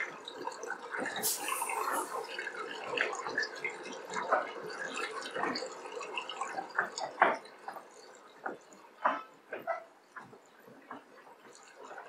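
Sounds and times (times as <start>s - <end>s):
water drips and plops: 0.0s - 12.0s.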